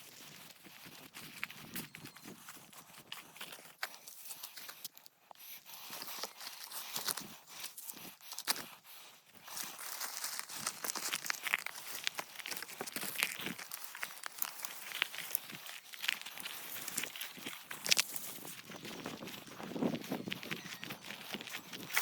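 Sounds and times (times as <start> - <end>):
dry brush rustling and crackling: 0.0 - 22.0.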